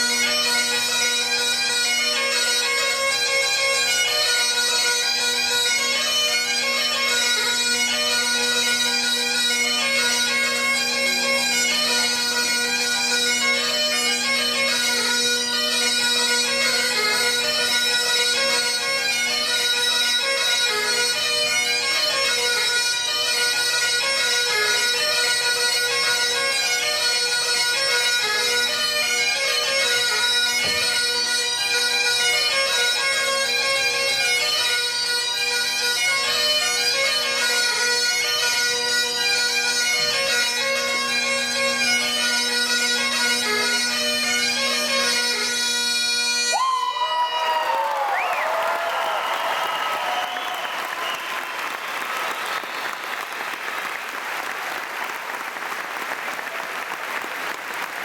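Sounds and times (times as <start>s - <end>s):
bagpipes playing a tune: 0.0s - 47.3s.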